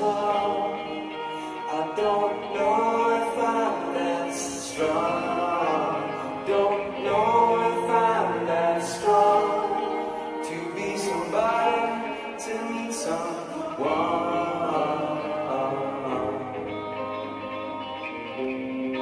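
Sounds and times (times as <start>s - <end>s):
man singing: 0.0s - 17.8s
electric guitar: 0.0s - 19.0s.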